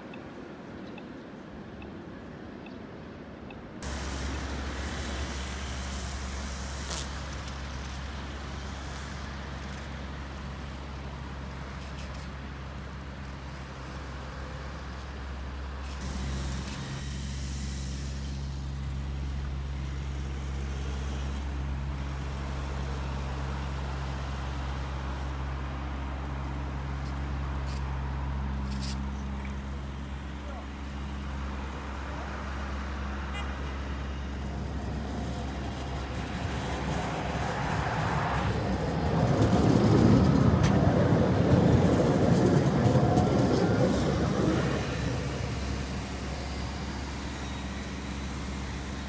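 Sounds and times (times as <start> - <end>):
vehicle engine humming: 3.8 - 49.0.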